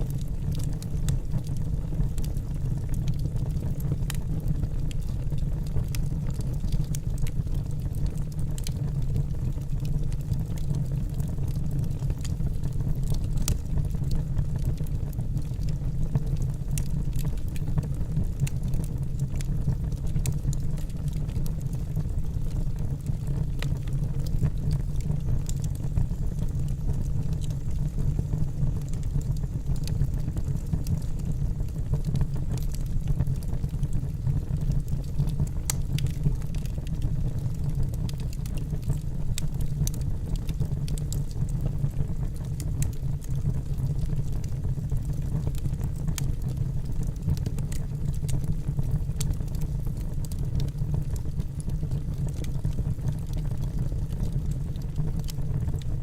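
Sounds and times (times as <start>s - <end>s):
logs crackling and popping: 0.0s - 56.0s
low rumble of fire: 0.0s - 56.0s.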